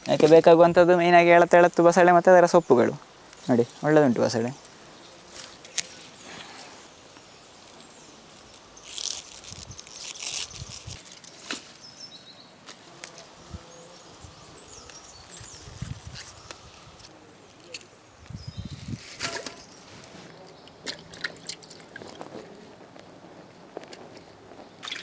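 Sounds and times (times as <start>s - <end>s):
leaves and vines rustling: 0.0s - 25.0s.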